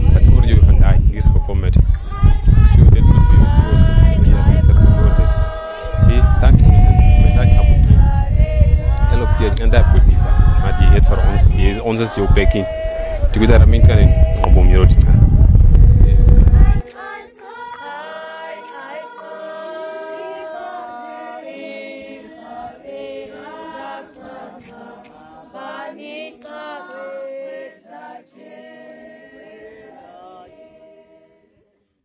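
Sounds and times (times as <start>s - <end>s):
congregation singing unaccompanied: 0.0s - 31.8s.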